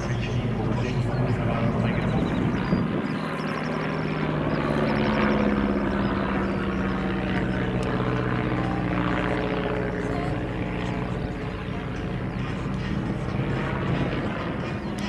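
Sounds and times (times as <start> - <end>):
propeller plane engine overhead: 0.0 - 15.0.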